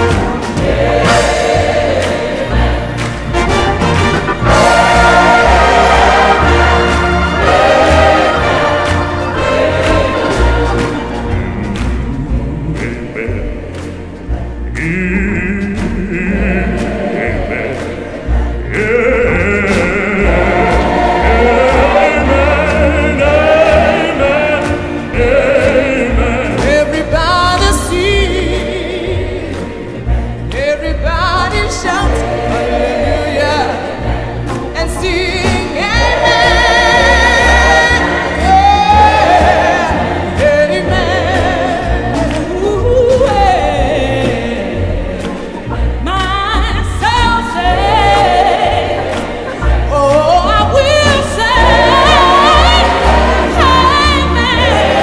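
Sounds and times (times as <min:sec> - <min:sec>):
choir singing: 0:00.0 - 0:55.0
instrumental backing with beat: 0:00.0 - 0:55.0.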